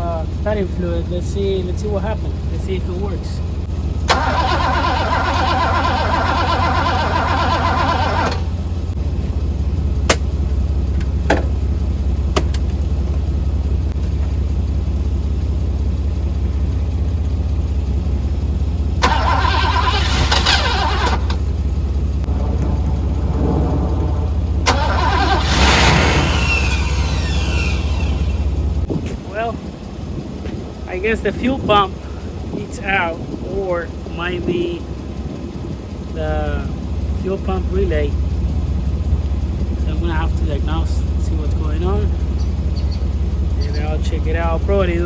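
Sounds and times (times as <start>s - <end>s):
car engine cranking: 0.0s - 45.0s
low rumble: 0.0s - 45.0s.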